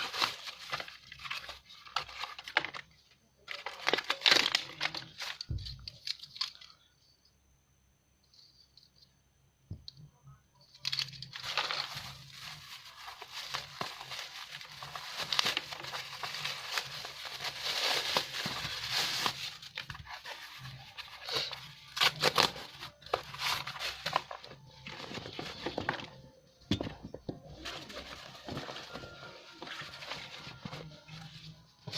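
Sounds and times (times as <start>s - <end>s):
plastic packaging tearing and crinkling: 0.0s - 6.7s, 10.8s - 26.3s, 27.5s - 31.9s.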